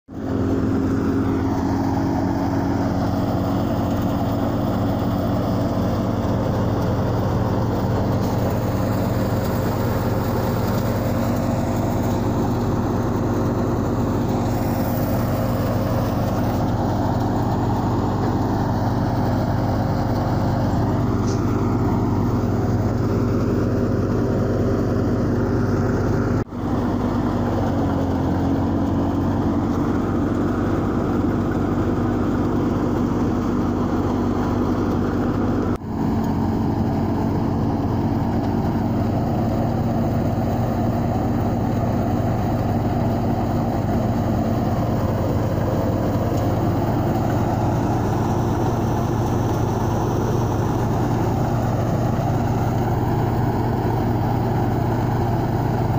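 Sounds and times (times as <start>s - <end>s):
threshing machine: 0.1s - 55.9s
tractor engine running: 0.1s - 55.9s.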